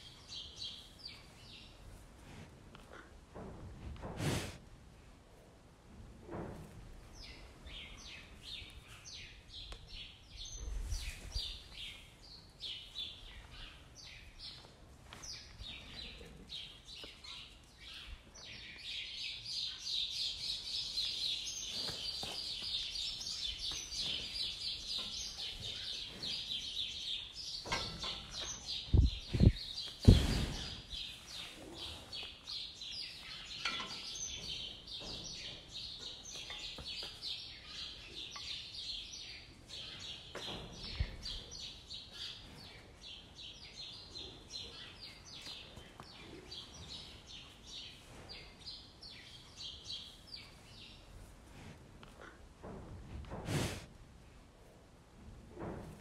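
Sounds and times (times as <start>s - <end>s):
small birds chirping: 0.0s - 2.0s, 7.1s - 51.3s.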